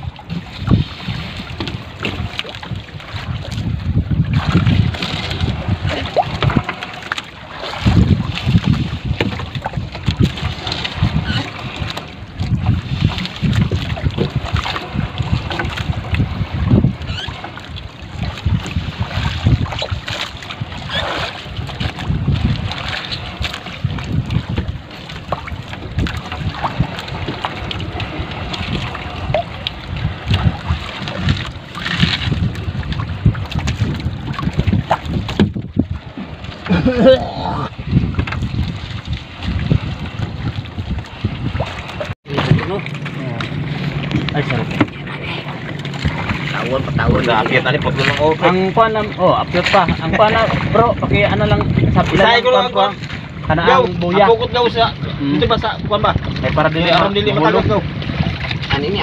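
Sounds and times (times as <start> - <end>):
sea water washing around boat: 0.0 - 59.0
wind buffeting microphone: 0.0 - 59.0.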